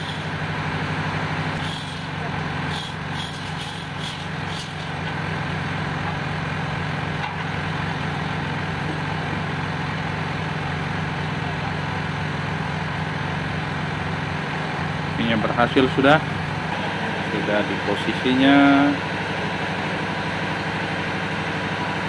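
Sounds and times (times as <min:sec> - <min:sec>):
engine room machinery humming: 0:00.0 - 0:22.0.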